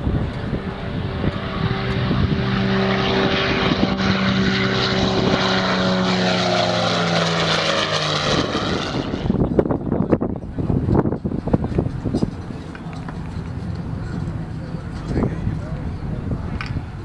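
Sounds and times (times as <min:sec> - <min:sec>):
aircraft engines droning: 0:00.0 - 0:17.0.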